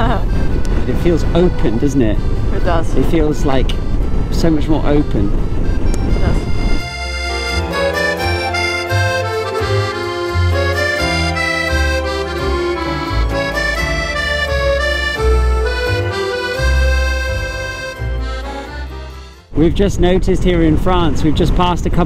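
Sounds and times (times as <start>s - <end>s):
instrumental background music: 0.0s - 19.6s.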